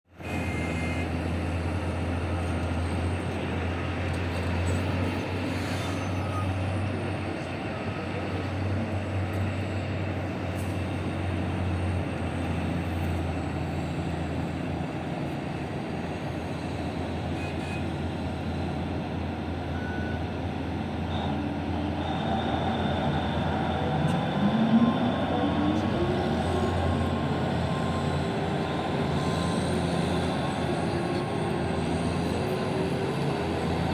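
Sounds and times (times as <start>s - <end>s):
diesel machinery engine drone: 0.1s - 33.9s.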